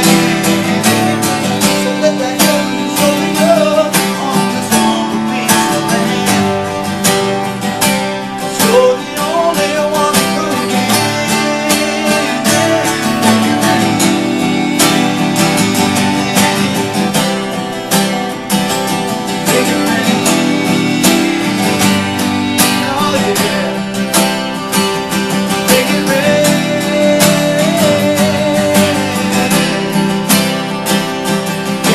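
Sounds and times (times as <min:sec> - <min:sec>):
acoustic guitars strumming: 0:00.0 - 0:31.9.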